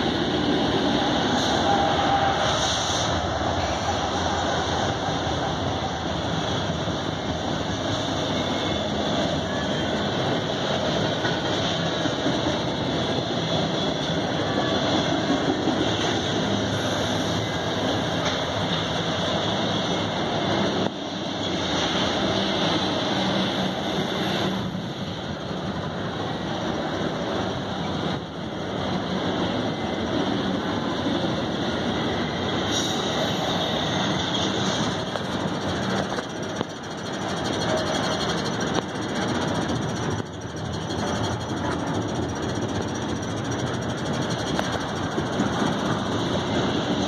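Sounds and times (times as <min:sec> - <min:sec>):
steel wheels rolling on rails: 0:00.0 - 0:47.0.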